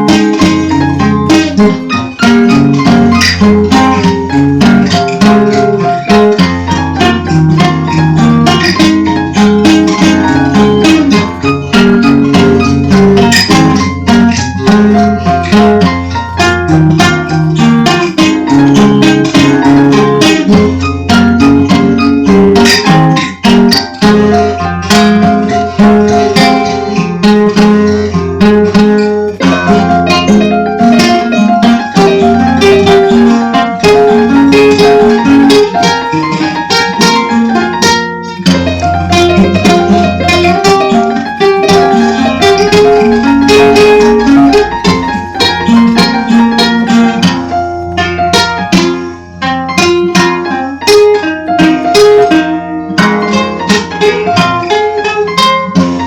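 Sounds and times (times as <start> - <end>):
plucked guitar picking: 0.0 - 56.0.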